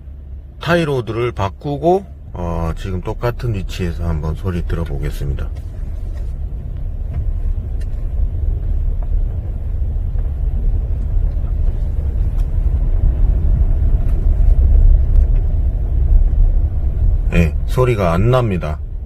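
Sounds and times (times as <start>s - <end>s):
pickup truck road rumble: 0.0s - 19.0s.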